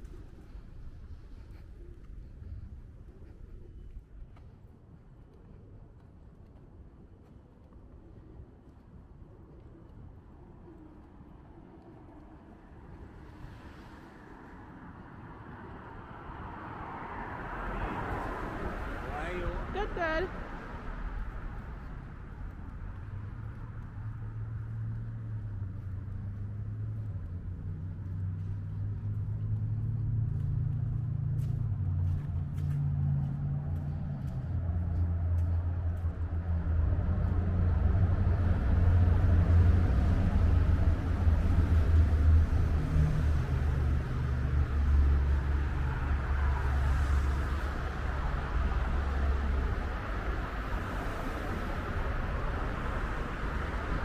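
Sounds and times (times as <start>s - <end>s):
road traffic rumble: 0.0s - 54.0s
vehicles passing close by: 9.4s - 54.0s.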